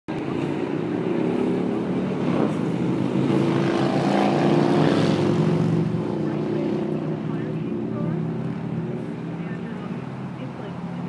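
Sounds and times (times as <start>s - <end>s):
road noise: 0.1s - 11.0s.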